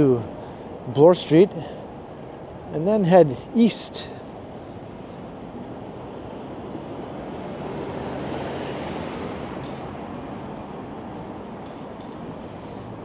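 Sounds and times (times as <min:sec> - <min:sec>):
passing street traffic: 0:00.0 - 0:13.0.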